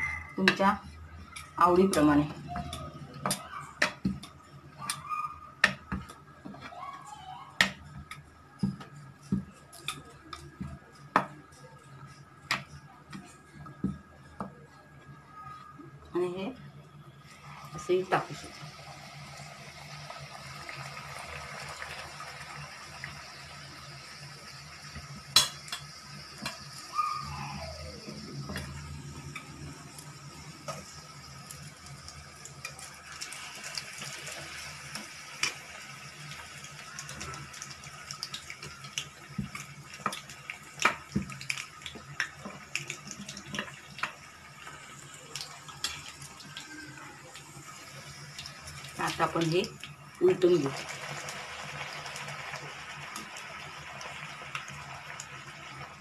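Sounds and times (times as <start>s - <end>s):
deep-frying sizzle in oil: 0.0s - 56.0s.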